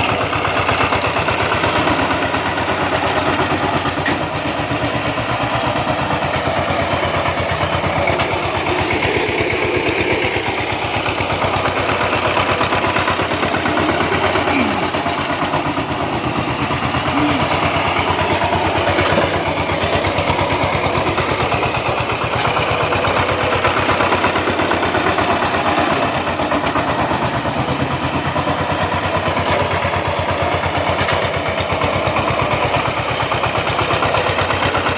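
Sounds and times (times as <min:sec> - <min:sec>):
diesel engine chugging: 0:00.0 - 0:34.9.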